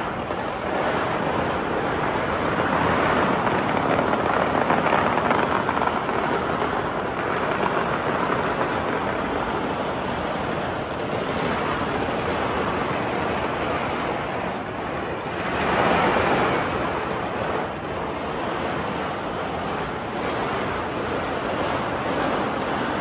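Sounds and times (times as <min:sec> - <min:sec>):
distant fireworks crackling rumble: 0:00.0 - 0:23.0.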